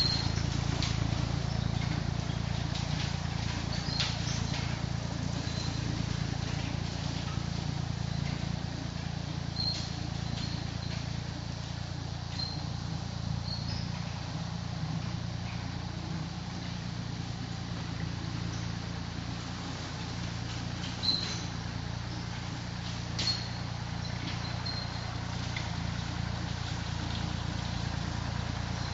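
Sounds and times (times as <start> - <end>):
tractor engine drone: 0.0 - 28.9.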